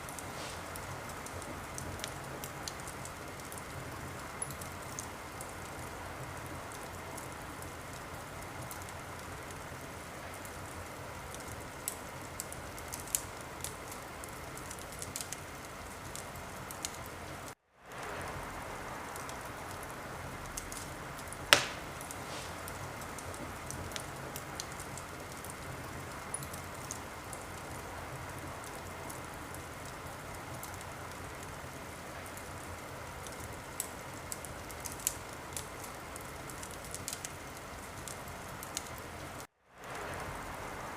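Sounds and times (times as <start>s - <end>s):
loud fire crack: 0.0s - 40.9s
wood fire crackling: 0.0s - 40.9s.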